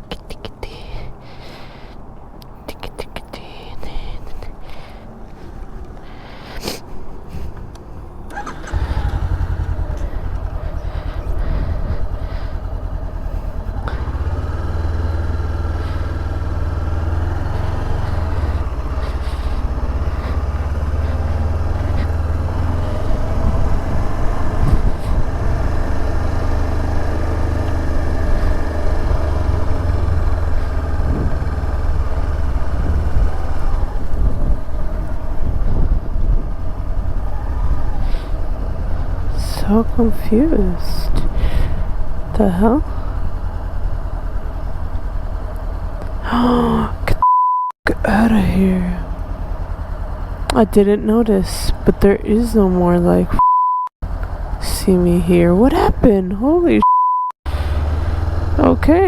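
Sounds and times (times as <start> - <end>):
motorcycle engine running: 8.3 - 47.2, 47.9 - 53.4, 54.0 - 56.8, 57.5 - 59.0.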